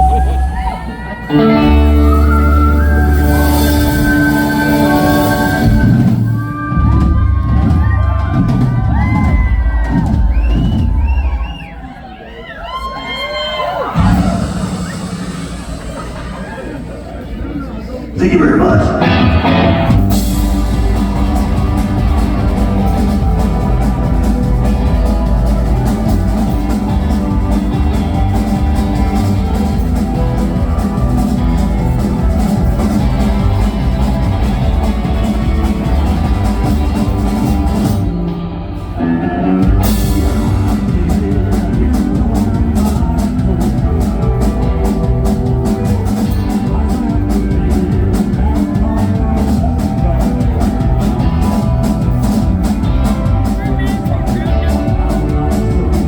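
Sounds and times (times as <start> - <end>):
country-rock band playing: 0.0 - 11.9, 12.8 - 17.0, 18.1 - 56.0.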